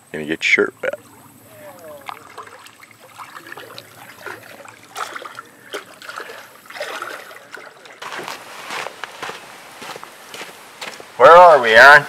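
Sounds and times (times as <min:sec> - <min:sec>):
water splashing and sloshing: 0:00.6 - 0:11.3.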